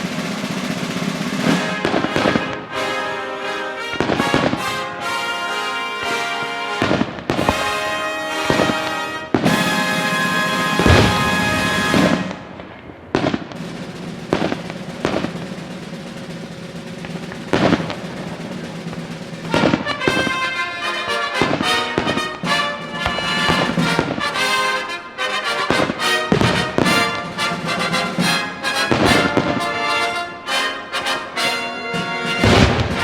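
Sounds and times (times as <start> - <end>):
music with brass: 0.0 - 12.6, 13.2 - 33.0
fireworks crackling and banging: 0.0 - 33.0.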